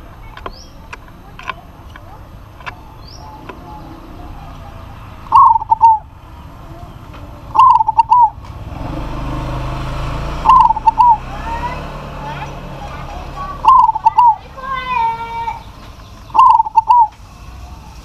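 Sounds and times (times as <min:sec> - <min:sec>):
dove calling: 0:00.0 - 0:18.0.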